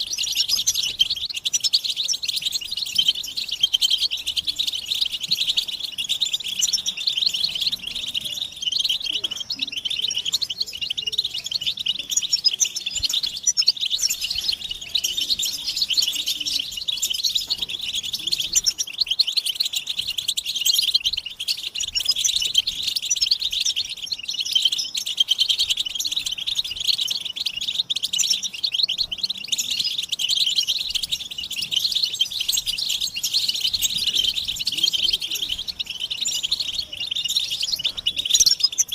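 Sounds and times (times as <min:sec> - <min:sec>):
goldfinches twittering: 0:00.0 - 0:38.9.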